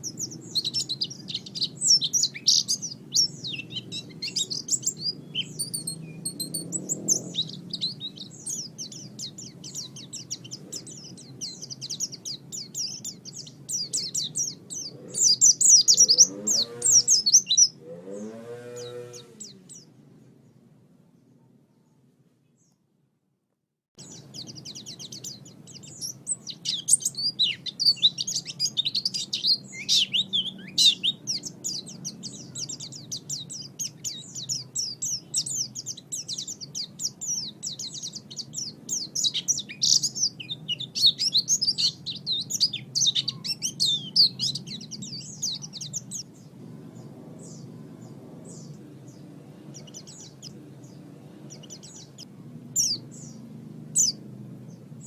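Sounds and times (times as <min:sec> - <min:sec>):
bird twittering song: 0:00.0 - 0:22.8, 0:24.0 - 0:55.0.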